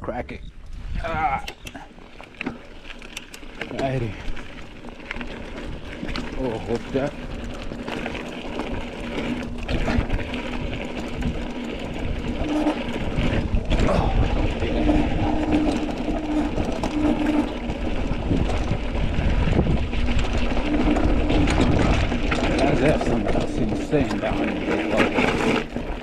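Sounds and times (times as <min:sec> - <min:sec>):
wind buffeting microphone: 0:00.0 - 0:01.7, 0:03.9 - 0:26.0
freewheel hub buzzing: 0:00.6 - 0:26.0
bike tyres rumbling over ground: 0:00.7 - 0:26.0.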